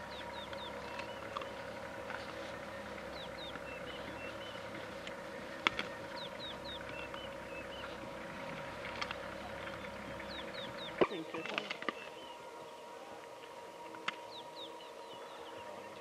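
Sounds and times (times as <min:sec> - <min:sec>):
birds chirping: 0:00.0 - 0:16.0
steady hum: 0:00.0 - 0:16.0.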